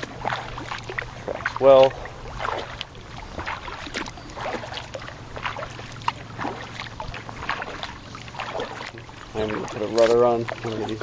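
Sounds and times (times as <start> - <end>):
paddle splashing in water: 0.0 - 11.0
steady low hum: 0.0 - 11.0.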